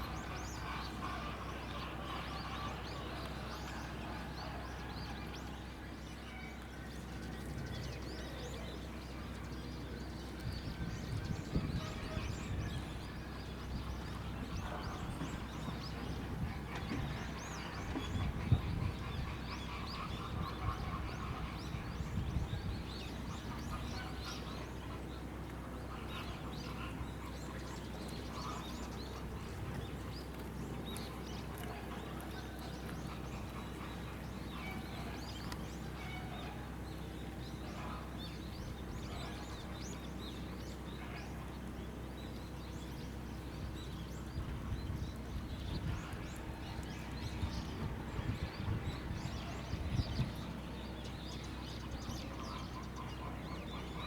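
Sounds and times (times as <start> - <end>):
birds chirping: 0.0 - 54.0
steady low hum: 0.0 - 54.0.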